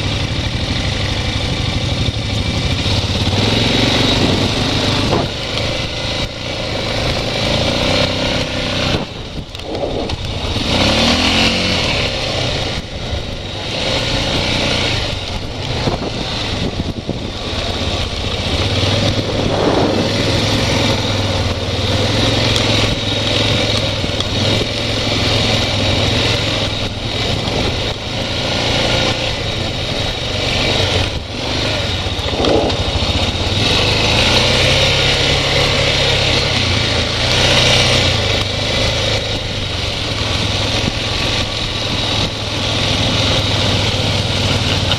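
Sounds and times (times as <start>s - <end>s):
atv engine revving: 0.0s - 44.9s.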